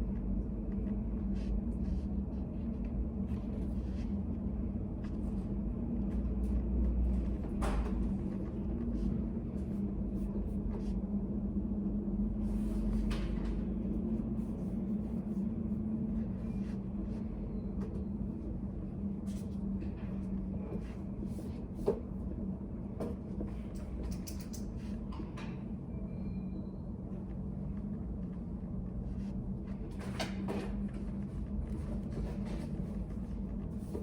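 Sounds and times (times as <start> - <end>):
low room hum: 0.0 - 34.0.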